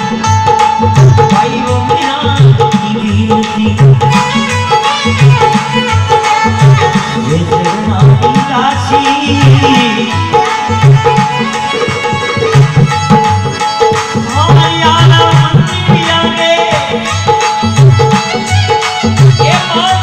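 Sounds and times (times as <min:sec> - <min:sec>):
dholak drumming: 0:00.0 - 0:20.0.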